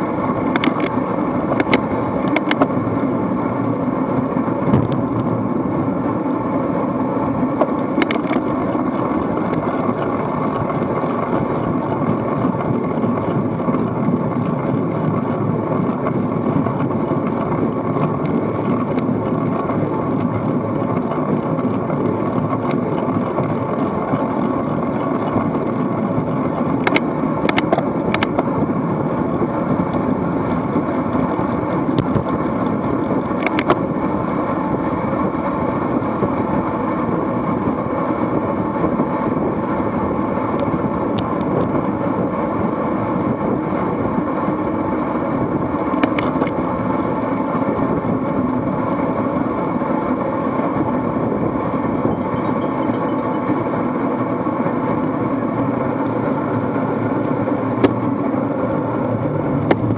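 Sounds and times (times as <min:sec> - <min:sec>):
tyre and road noise: 0:00.0 - 0:59.9
wind rush: 0:00.0 - 0:59.9
wind buffeting microphone: 0:07.4 - 0:59.9.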